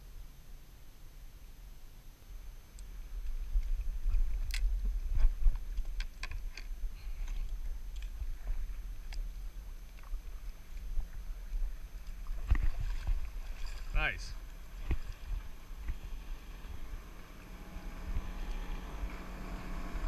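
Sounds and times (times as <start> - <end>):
low microphone rumble: 0.0 - 20.0.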